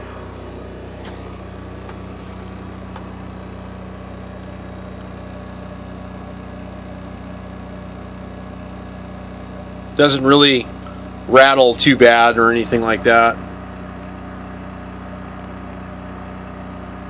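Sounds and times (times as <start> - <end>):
generator humming: 0.0 - 17.0.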